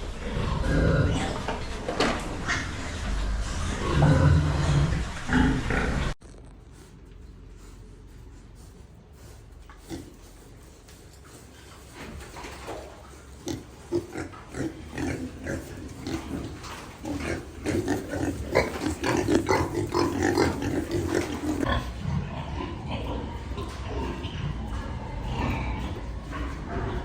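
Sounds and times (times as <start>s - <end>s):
pigs grunting: 0.0s - 6.2s, 7.5s - 27.0s.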